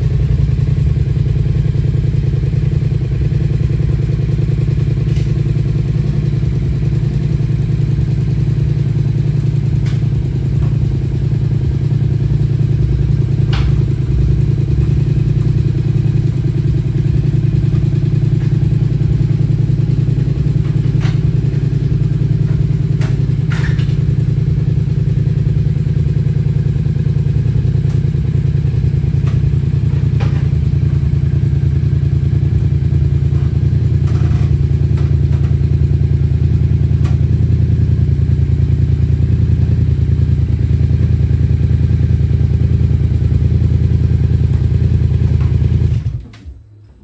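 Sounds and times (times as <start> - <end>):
motorcycle engine idling: 0.0 - 46.8.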